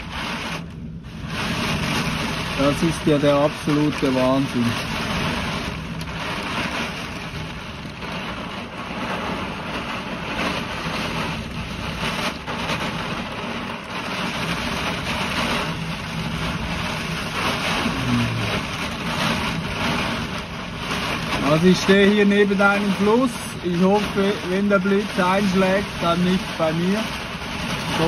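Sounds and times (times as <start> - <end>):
rain falling: 0.0 - 28.0
storm wind gusting: 0.0 - 28.0.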